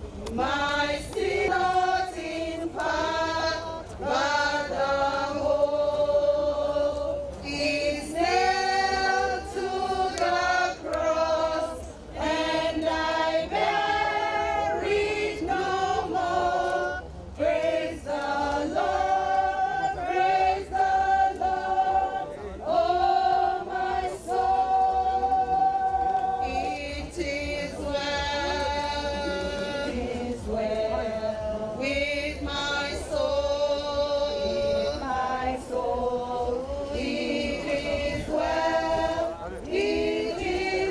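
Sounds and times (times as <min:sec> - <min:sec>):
group singing unaccompanied: 0:00.2 - 0:40.9.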